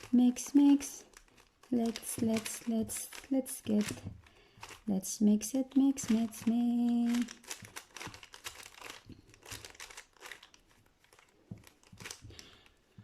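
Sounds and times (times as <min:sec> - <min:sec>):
puzzle cube clicking and rattling: 0:00.0 - 0:04.9, 0:05.8 - 0:12.3.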